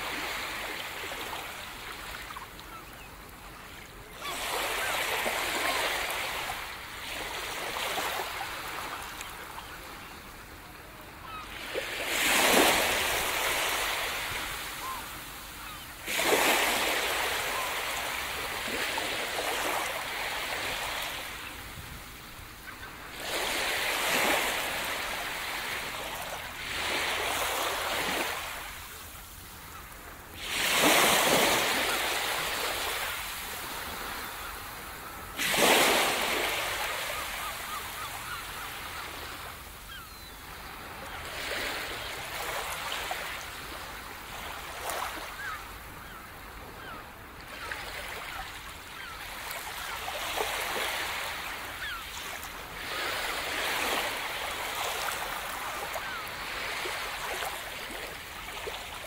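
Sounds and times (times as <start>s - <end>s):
waves breaking on sand beach: 0.0s - 59.0s.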